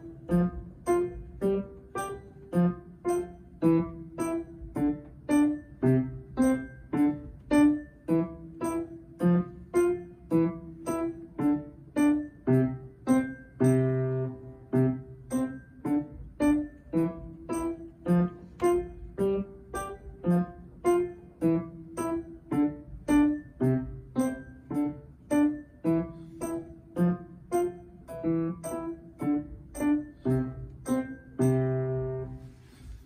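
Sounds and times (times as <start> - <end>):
upright piano playing: 0.0 - 32.7.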